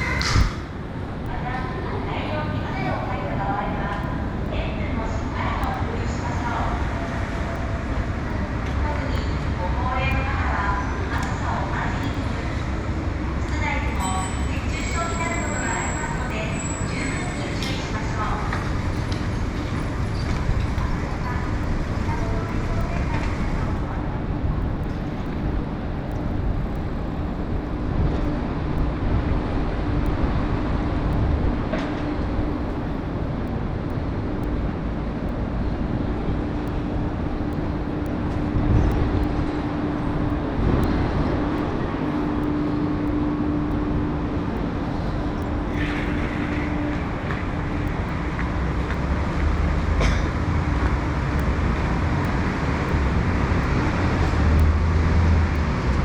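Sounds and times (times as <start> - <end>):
street traffic noise: 0.0 - 56.0.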